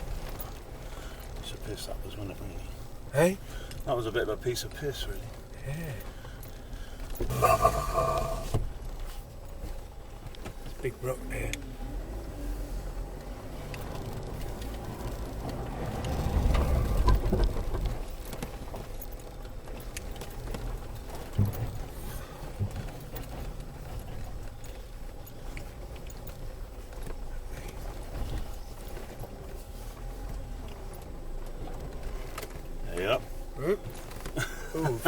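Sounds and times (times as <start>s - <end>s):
engine and drivetrain rumble: 0.0s - 35.0s.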